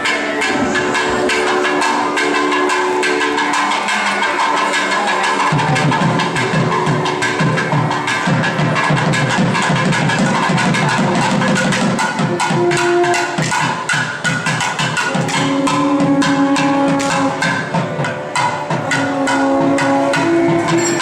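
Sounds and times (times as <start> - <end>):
fast sharp drum strokes: 0.0 - 21.0
melody of long held notes: 0.0 - 21.0.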